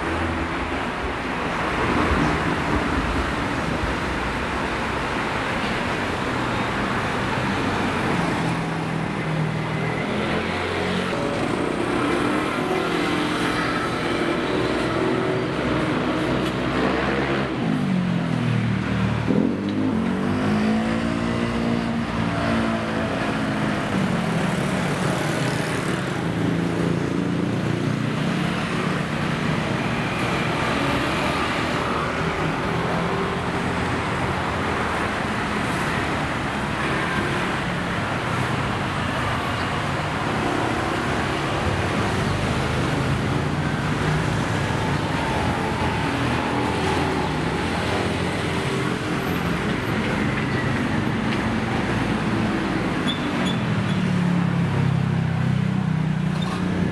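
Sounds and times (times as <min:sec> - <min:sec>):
road traffic: 0:00.0 - 0:56.9.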